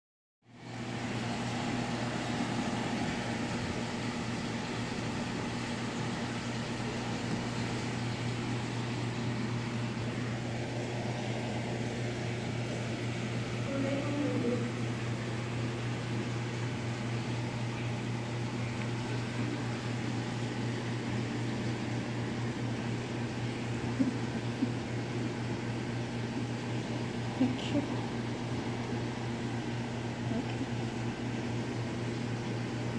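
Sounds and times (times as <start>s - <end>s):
aquarium pump hum and hiss: 0.5s - 32.9s.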